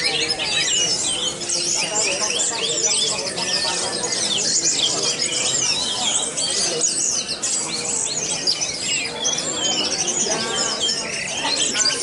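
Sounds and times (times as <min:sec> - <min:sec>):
other birds calling: 0:00.0 - 0:12.0.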